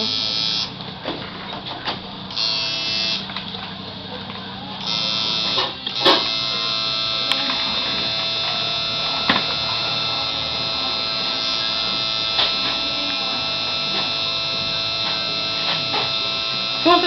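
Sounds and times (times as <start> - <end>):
tattoo machine buzzing: 0.0 - 0.9, 2.0 - 3.5, 4.8 - 17.0.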